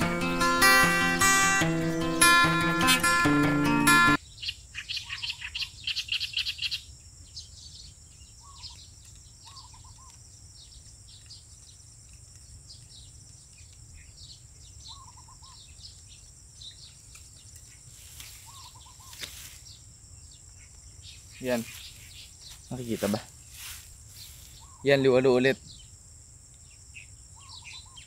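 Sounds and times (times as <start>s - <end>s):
insect drone: 0.0s - 28.0s
wild birds chirping: 0.0s - 28.0s.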